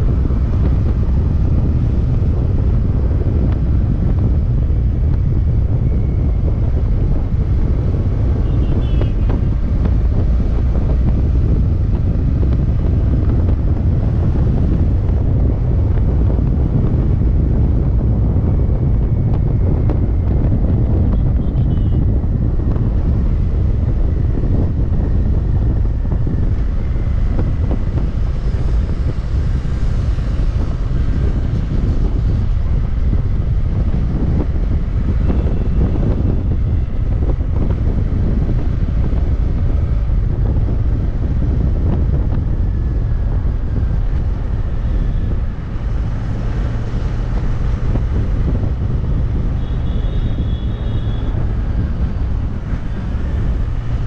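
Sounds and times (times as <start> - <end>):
road rumble: 0.0 - 54.0
wind buffeting microphone: 0.0 - 54.0.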